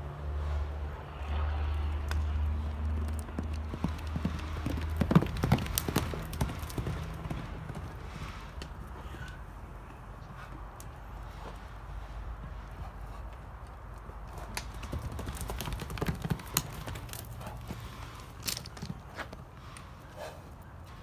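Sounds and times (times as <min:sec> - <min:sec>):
horse hooves on dirt: 0:01.6 - 0:21.0.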